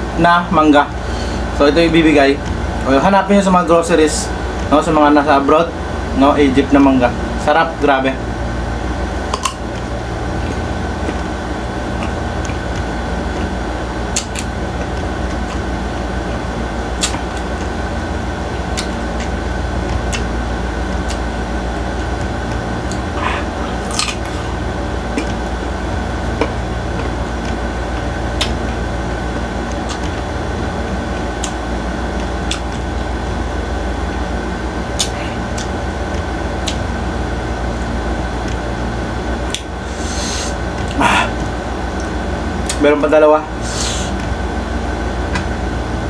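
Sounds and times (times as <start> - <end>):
machine hum: 0.0 - 46.0.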